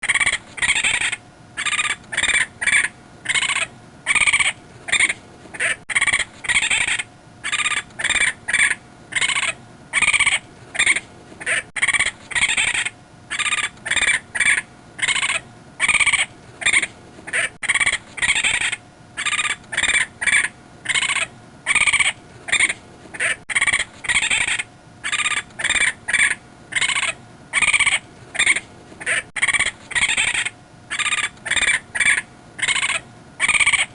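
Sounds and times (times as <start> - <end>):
raccoon calling: 0.0 - 33.9.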